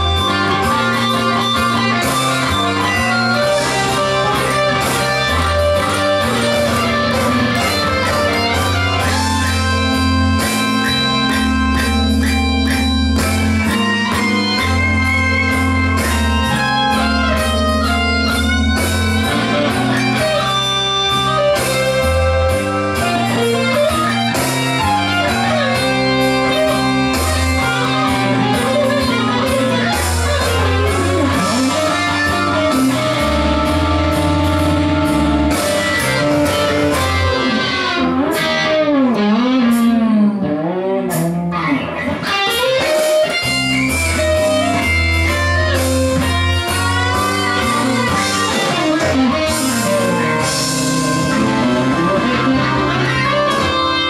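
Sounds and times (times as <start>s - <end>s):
low bass notes: 0.0s - 42.2s, 42.8s - 54.0s
electric guitar blues lead: 0.0s - 54.0s.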